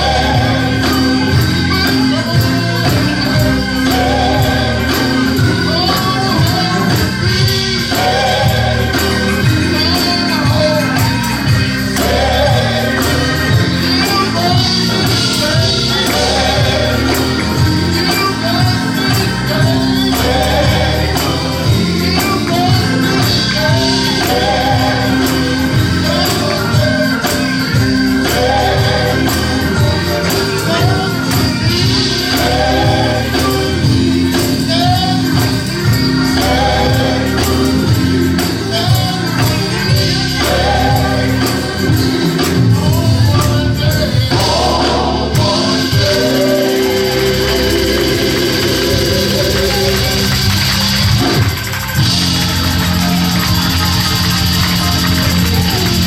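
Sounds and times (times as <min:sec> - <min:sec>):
band accompaniment: 0:00.0 - 0:56.0
choir singing gospel: 0:00.0 - 0:56.0
tambourine: 0:00.0 - 0:56.0.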